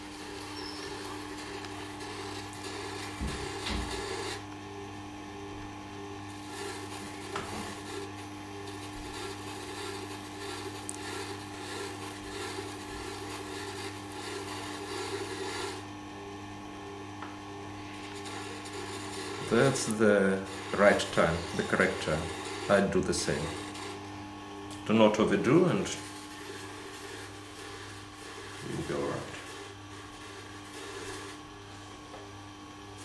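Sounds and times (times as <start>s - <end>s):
knife rubbing on honing wheel: 0.0s - 4.4s, 6.3s - 15.9s, 17.9s - 31.6s
sharpener motor humming: 0.0s - 33.0s.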